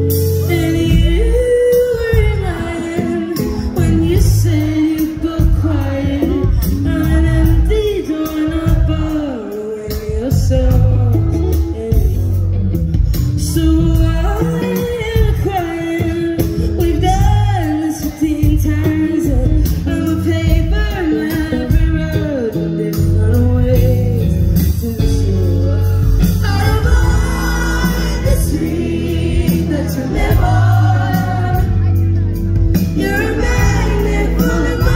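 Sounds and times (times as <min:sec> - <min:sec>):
live band playing: 0:00.0 - 0:34.9
woman singing lead: 0:00.0 - 0:34.9.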